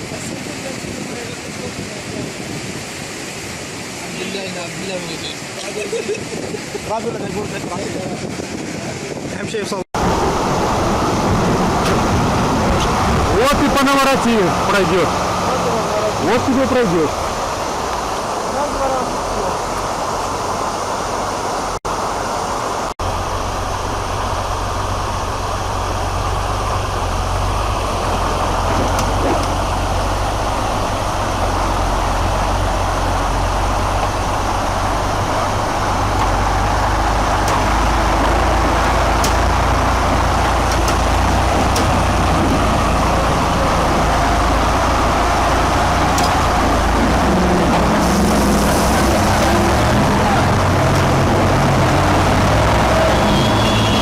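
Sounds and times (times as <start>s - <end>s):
heavy vehicle engine rumble: 5.4s - 54.0s.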